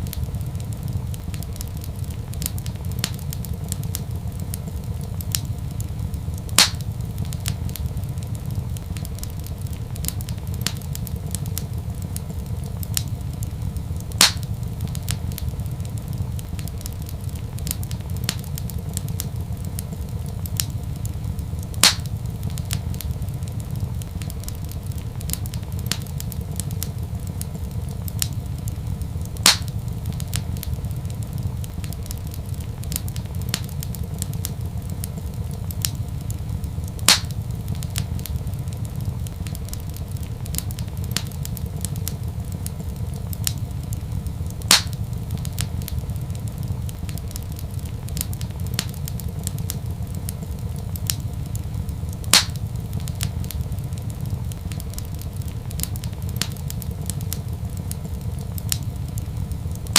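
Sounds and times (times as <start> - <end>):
loud fire pops: 0.0 - 59.9
low fire rumble: 0.0 - 59.9
wood fire crackling: 0.0 - 59.9.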